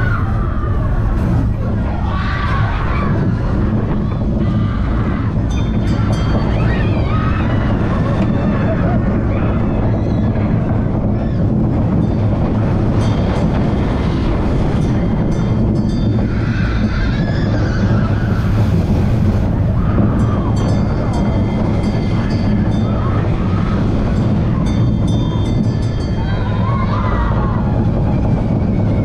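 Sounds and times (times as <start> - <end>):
roller coaster wheels rumbling: 0.0 - 29.0.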